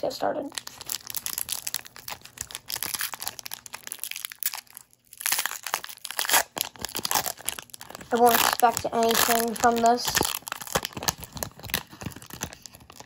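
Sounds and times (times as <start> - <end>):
foil wrapper crinkling and tearing: 0.4 - 13.0.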